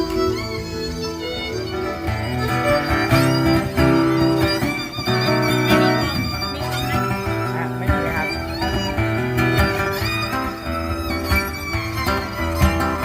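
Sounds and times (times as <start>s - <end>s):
live instrumental music: 0.0s - 13.0s.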